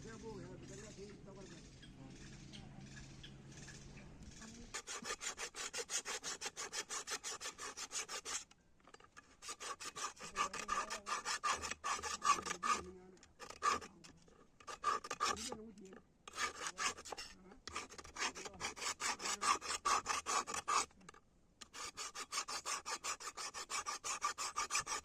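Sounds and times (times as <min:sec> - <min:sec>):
hand file filing metal: 0:00.0 - 0:08.5, 0:09.1 - 0:15.6, 0:16.3 - 0:21.0, 0:21.6 - 0:25.0.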